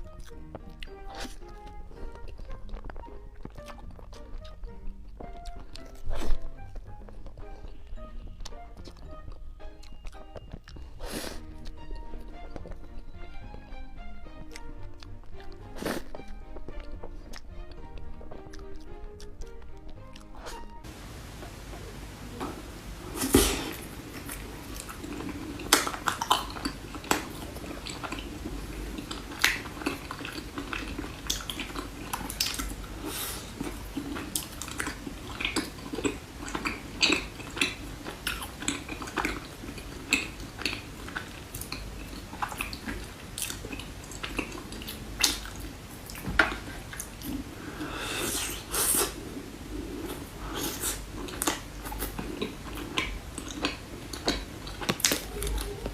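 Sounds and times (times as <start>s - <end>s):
chewing and biting: 0.0s - 21.7s, 23.2s - 55.9s.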